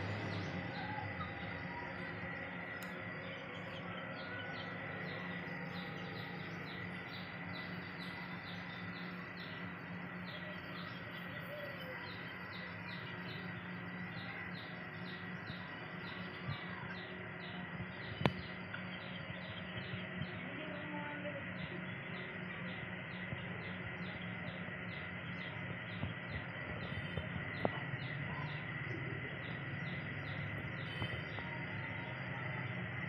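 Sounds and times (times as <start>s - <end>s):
small bird chirping: 0.0s - 32.8s
steady low hum: 0.0s - 33.0s.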